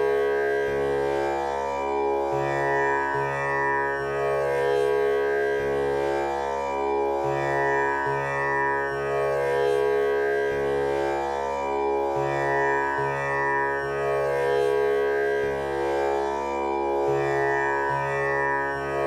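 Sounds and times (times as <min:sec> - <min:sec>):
tanpura drone: 0:00.0 - 0:19.0.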